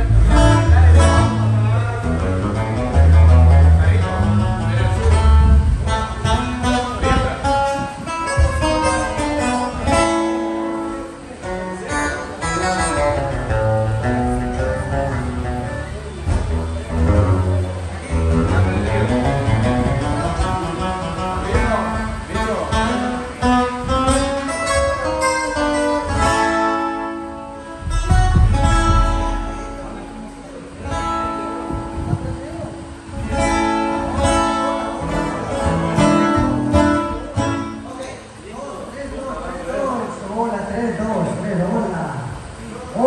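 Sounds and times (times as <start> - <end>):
acoustic guitar strumming: 0.0 - 38.4
band playing: 0.0 - 38.4
electric bass guitar notes: 0.0 - 38.4.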